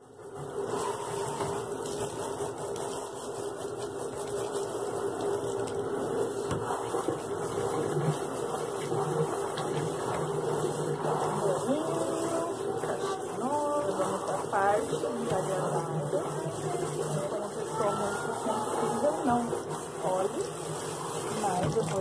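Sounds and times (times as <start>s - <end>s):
hose water spraying on fur: 0.0s - 22.0s.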